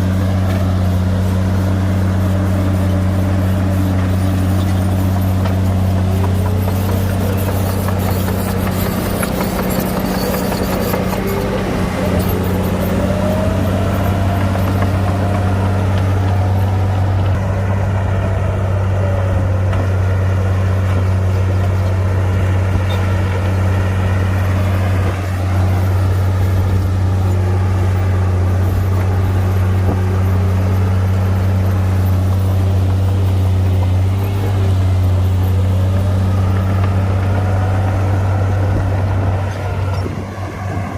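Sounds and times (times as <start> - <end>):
bulldozer diesel engine drone: 0.0 - 40.9.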